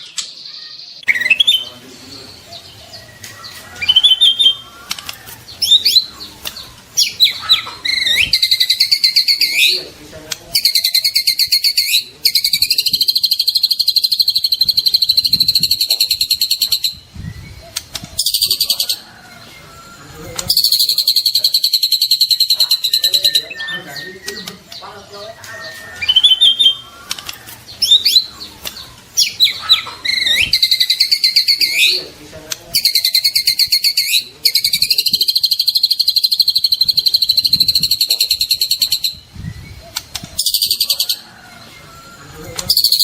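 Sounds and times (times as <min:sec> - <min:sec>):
songbird singing: 0:00.0 - 0:43.0.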